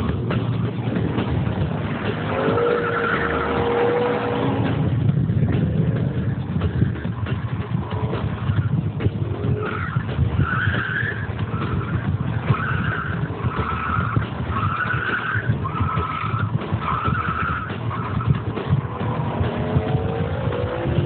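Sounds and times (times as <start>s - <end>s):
car engine and exhaust rumbling: 0.0s - 21.0s.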